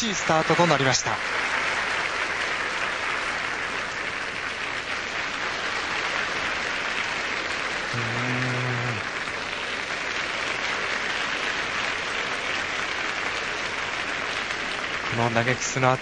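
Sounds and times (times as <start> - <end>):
arena crowd applauding: 0.0 - 16.0.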